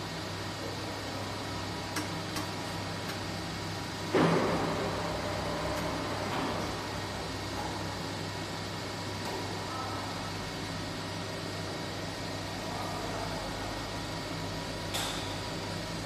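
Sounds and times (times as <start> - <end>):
press machine humming: 0.0 - 16.0.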